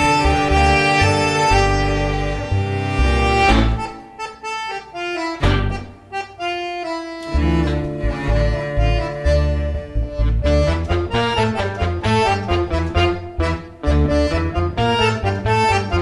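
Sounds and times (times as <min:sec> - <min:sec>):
bass line: 0:00.0 - 0:04.0, 0:05.4 - 0:06.0, 0:07.3 - 0:16.0
instrumental melody: 0:00.0 - 0:16.0.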